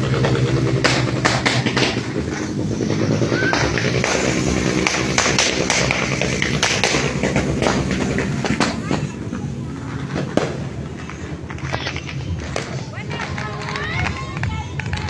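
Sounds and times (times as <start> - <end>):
steady low hum: 0.0 - 13.1
firecrackers popping: 0.0 - 15.0.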